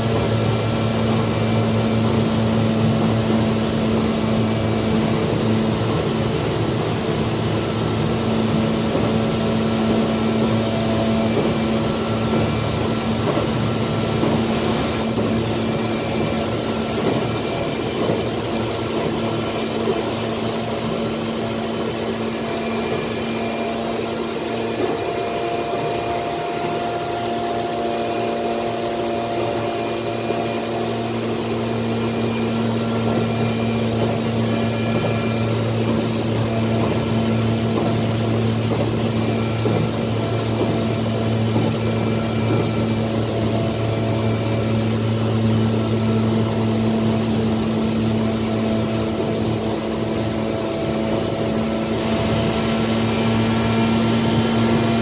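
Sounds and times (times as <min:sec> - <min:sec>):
wheels rumbling on rail: 0:00.0 - 0:55.0
faint whines: 0:00.1 - 0:55.0.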